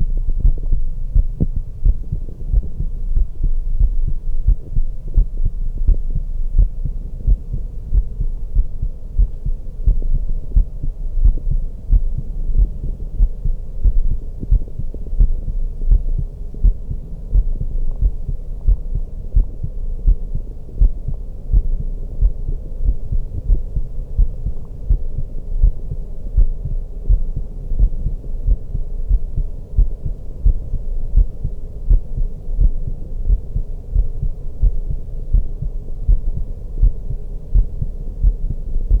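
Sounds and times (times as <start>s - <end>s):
faint dark ambient drone: 0.0s - 39.0s
heartbeat through stethoscope: 0.0s - 39.0s.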